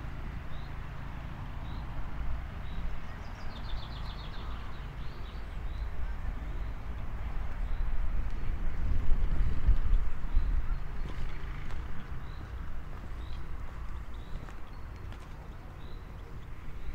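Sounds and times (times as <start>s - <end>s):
small birds chirping: 2.6s - 16.9s.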